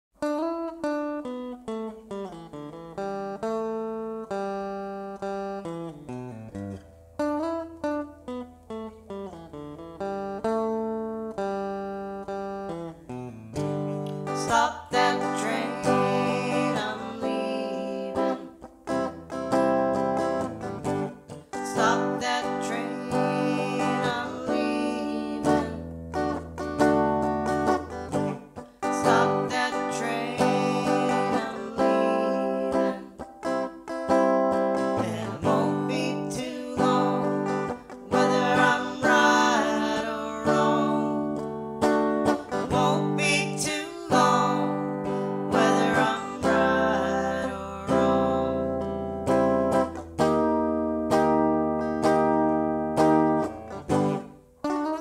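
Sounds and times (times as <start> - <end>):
plucked string notes: 0.2 - 55.0.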